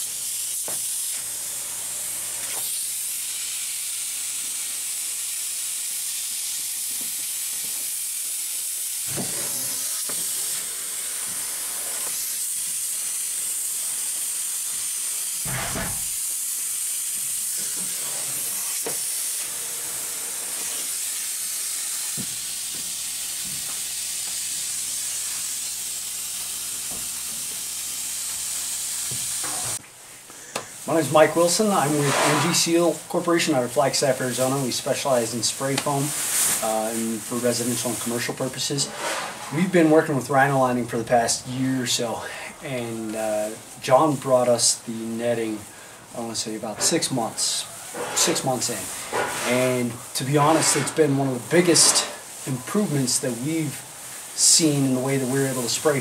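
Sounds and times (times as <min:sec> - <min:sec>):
spray foam gun hissing: 0:00.0 - 0:29.8, 0:30.6 - 0:40.5, 0:41.9 - 0:56.0.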